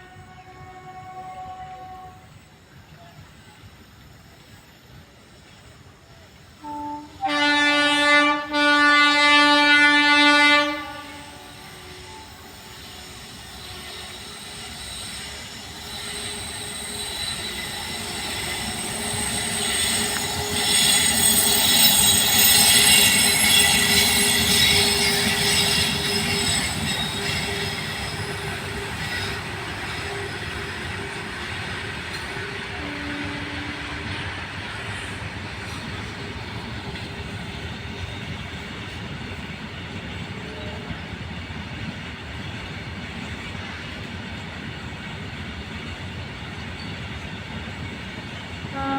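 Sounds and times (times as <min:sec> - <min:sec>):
train wheels squealing on rails: 0:00.0 - 0:08.8, 0:09.4 - 0:48.9
train running noise: 0:00.0 - 0:48.9.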